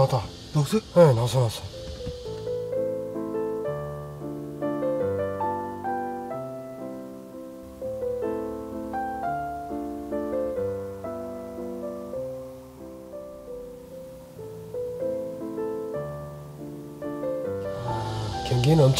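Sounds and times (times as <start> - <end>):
piano music: 0.0 - 18.9.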